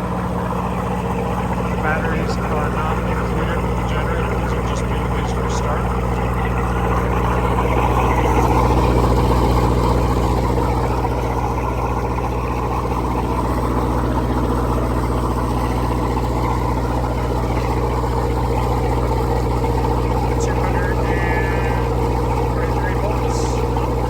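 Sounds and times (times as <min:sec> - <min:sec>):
diesel generator running: 0:00.0 - 0:24.0.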